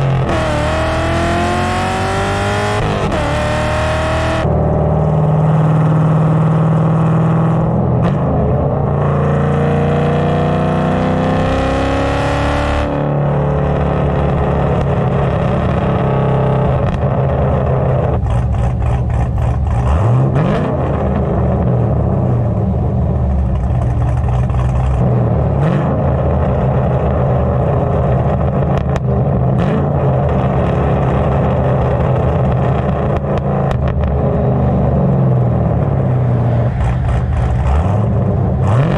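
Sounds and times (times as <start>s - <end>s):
vee-eight car engine revving: 0.0s - 38.9s.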